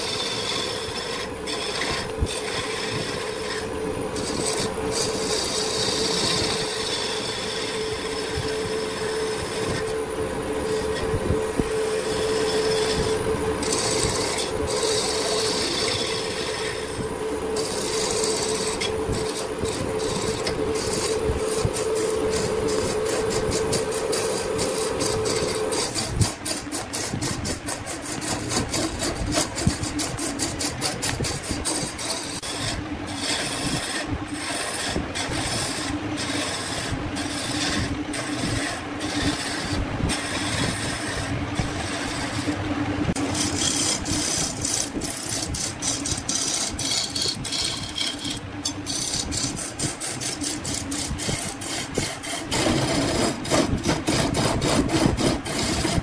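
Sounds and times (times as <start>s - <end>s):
lathe machine hum: 0.0s - 56.0s
tool scraping spinning wood: 0.0s - 56.0s.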